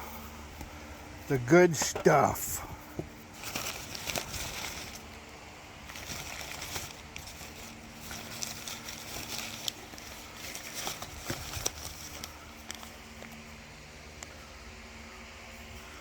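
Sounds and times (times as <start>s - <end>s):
faint steady hum: 0.0s - 16.0s
outdoor background noise: 0.0s - 16.0s.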